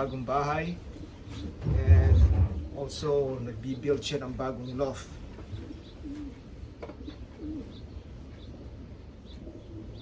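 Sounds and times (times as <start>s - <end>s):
pigeons cooing: 0.0s - 3.2s, 5.0s - 10.0s.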